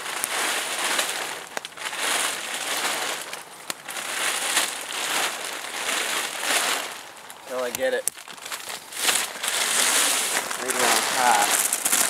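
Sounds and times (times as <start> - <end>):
plastic tarp crinkling and rustling: 0.0 - 12.0.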